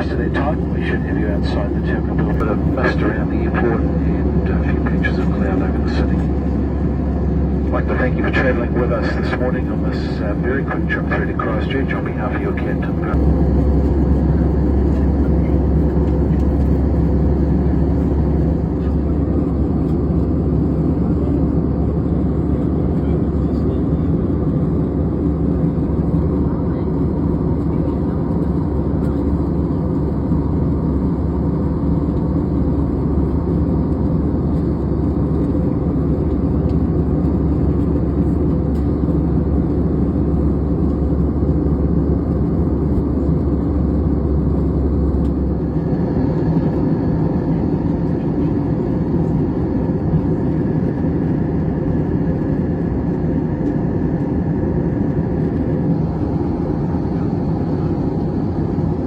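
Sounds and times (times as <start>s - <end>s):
airliner cabin drone: 0.0s - 59.0s
higher engine whine: 0.0s - 59.0s.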